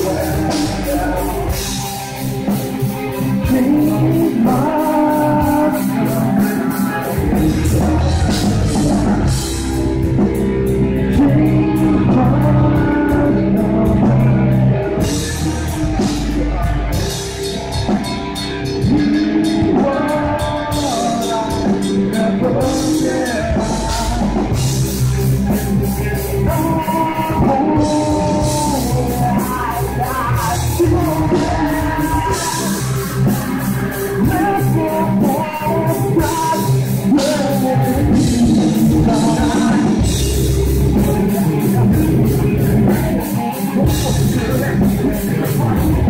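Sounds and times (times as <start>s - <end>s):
bass guitar: 0.0s - 46.0s
distorted electric guitars: 0.0s - 46.0s
drum kit with cymbal hits: 0.0s - 46.0s
vocalist singing: 0.0s - 46.0s.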